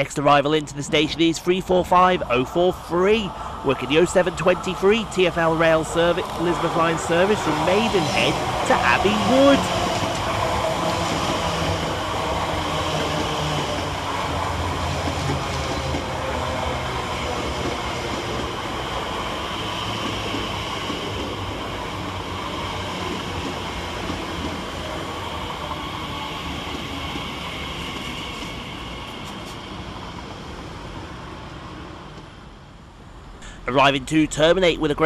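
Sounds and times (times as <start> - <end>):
electric train slowing: 0.6 - 32.8.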